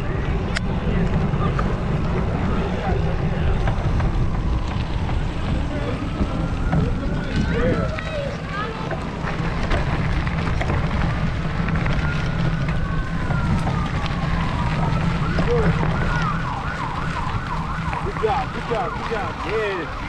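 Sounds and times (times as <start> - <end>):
emergency vehicle siren: 0.0 - 20.0
wind rumble on microphone: 0.0 - 20.0.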